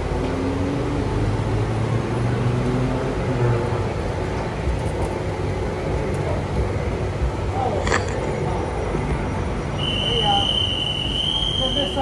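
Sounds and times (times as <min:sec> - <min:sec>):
train standing at platform humming: 0:00.0 - 0:12.0.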